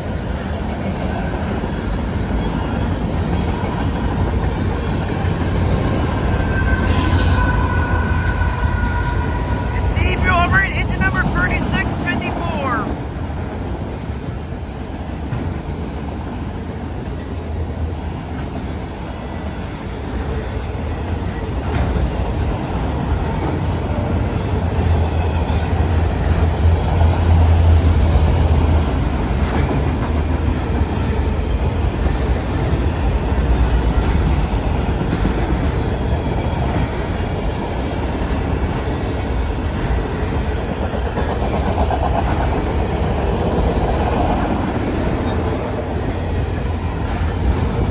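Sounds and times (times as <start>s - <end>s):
freight train rolling past: 0.0s - 47.9s.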